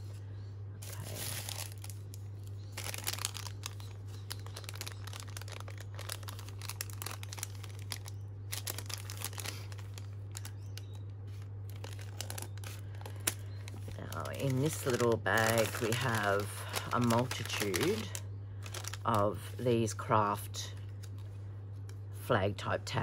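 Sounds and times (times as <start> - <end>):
steady low hum: 0.0 - 23.0
paper rustling and crinkling: 0.8 - 19.7.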